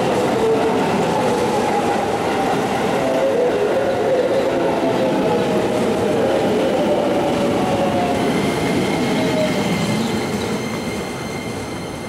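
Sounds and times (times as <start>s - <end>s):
electric train rolling past: 0.0s - 12.0s.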